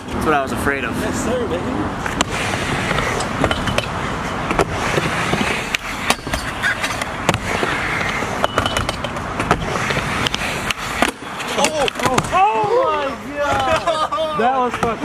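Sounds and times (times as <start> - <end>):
skateboard wheels rolling: 2.0 - 15.0.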